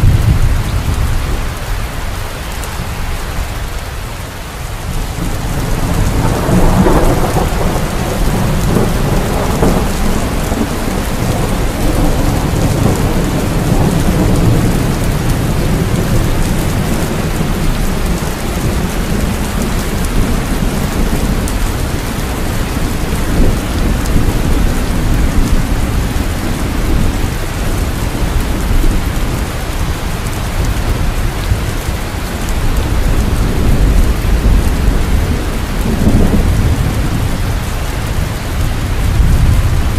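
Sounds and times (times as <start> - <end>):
rolling thunder: 0.0 - 1.9, 4.8 - 39.9
heavy rain: 0.0 - 39.9.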